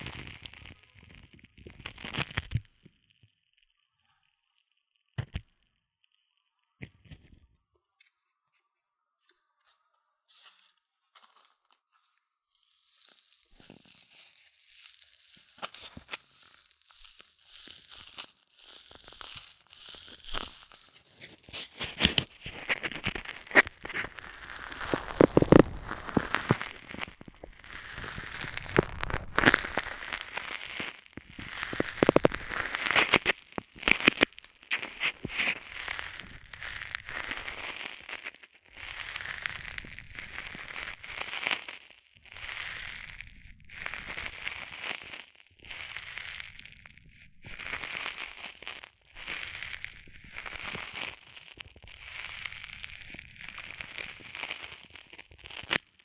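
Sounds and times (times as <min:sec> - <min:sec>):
foam plastic crinkling: 0:00.0 - 0:02.6, 0:10.4 - 0:56.0.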